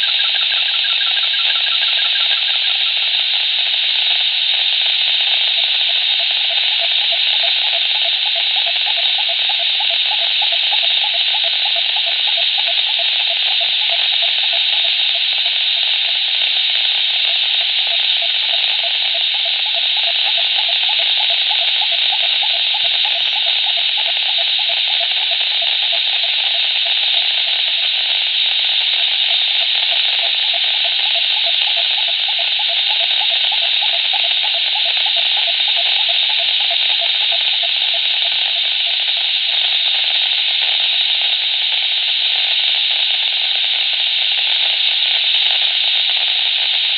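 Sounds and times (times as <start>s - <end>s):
radio speaker hiss: 0.0s - 46.9s.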